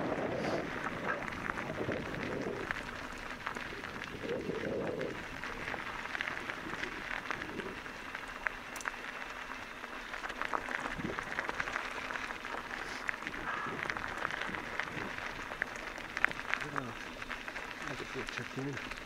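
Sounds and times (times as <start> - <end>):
bike tyres rolling over gravel: 0.0 - 19.0.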